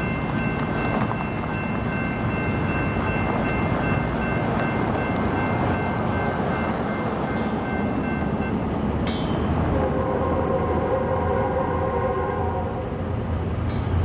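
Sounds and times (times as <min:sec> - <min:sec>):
distant diesel freight train rumble: 0:00.0 - 0:14.0.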